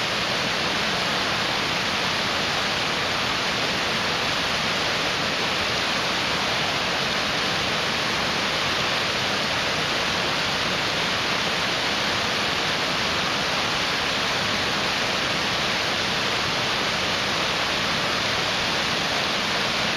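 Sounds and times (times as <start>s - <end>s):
mountain stream rushing: 0.0s - 19.9s.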